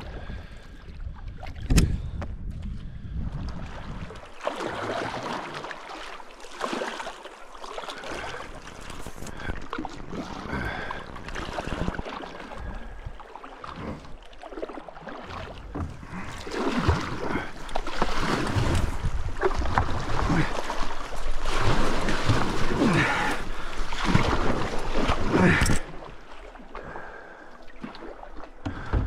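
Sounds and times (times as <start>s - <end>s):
canoe paddle strokes: 3.4s - 29.0s
water rushing and splashing: 3.4s - 29.0s.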